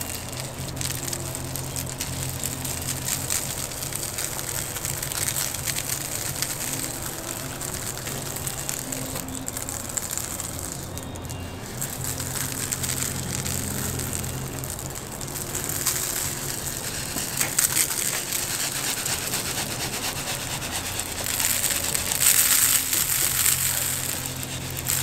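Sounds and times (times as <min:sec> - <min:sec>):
background hiss: 0:00.0 - 0:25.0
low hum: 0:00.0 - 0:25.0
salt grains pouring: 0:00.0 - 0:25.0.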